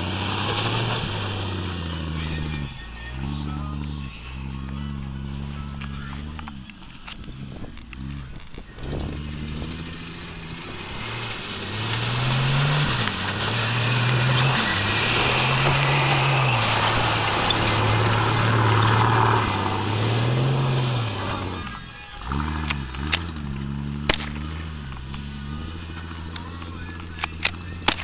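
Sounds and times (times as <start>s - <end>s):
engine revving: 0.0s - 28.0s
wheels spinning through mud: 0.0s - 28.0s.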